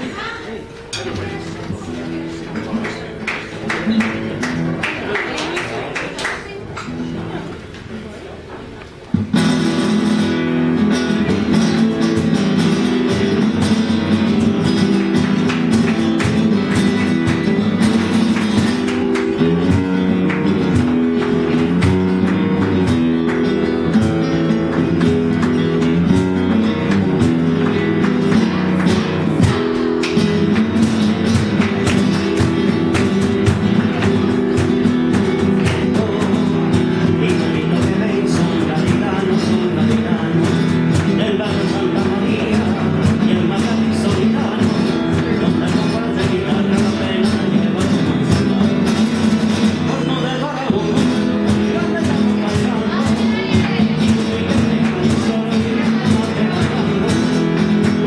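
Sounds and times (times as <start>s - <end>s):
flamenco guitars playing: 0.0s - 58.0s.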